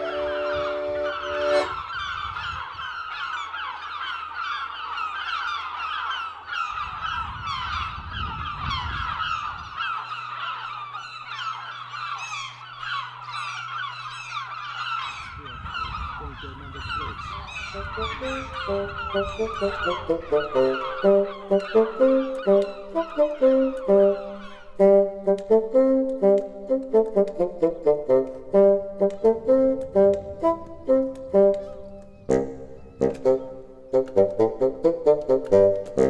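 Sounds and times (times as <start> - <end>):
flock of birds calling: 0.0 - 25.5, 30.3 - 34.2.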